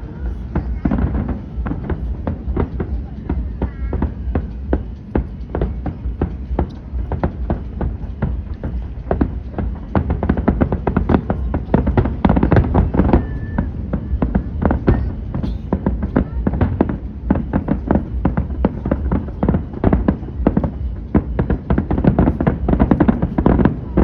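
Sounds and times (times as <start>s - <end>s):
continuous low rumble: 0.0s - 24.0s
fireworks bursting: 0.0s - 24.0s.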